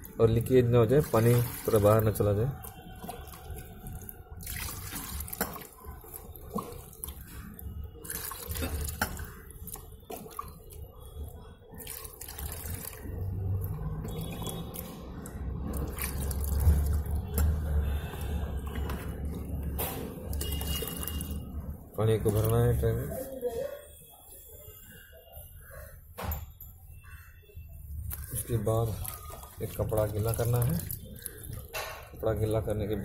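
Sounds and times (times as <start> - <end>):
water pouring and splashing: 0.0 - 23.4, 28.0 - 33.0.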